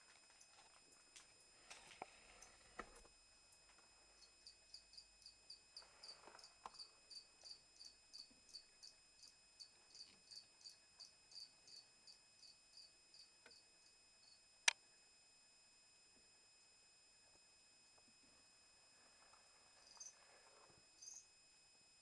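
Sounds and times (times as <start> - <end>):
cricket chirping: 0.0 - 15.9, 17.0 - 22.0.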